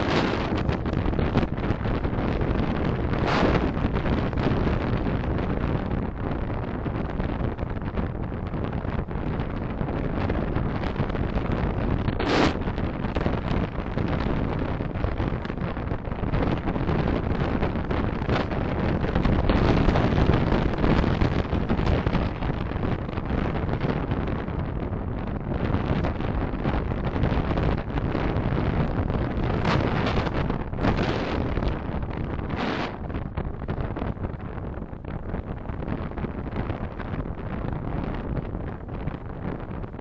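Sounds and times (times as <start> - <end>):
car road and wind noise: 0.0 - 40.0.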